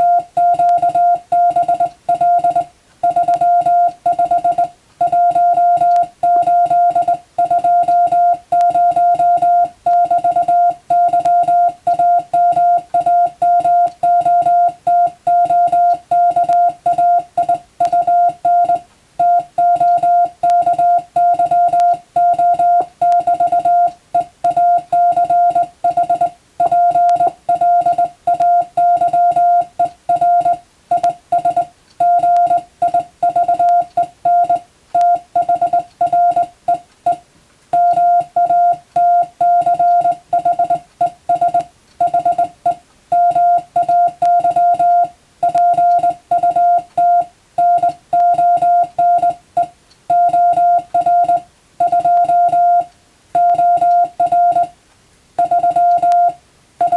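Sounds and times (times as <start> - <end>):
morse code tone: 0.0 - 54.8, 55.4 - 56.9.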